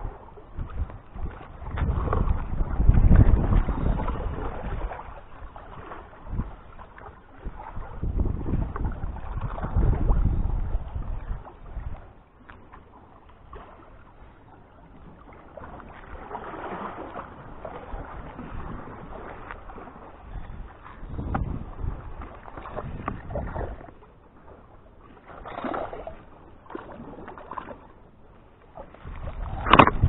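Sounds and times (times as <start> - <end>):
wind rumbling on microphone: 0.0 - 12.5, 13.4 - 24.1, 28.8 - 30.0.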